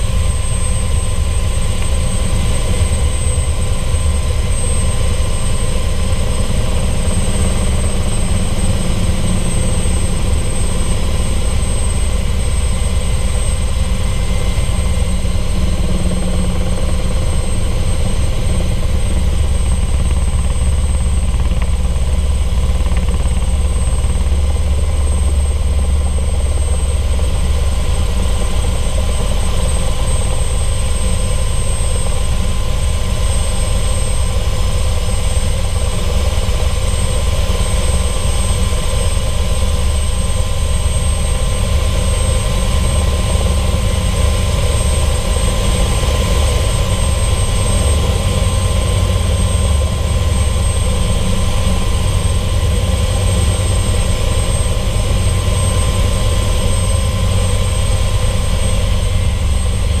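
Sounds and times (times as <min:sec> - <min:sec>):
helicopter engine and rotor: 0:00.0 - 1:00.0.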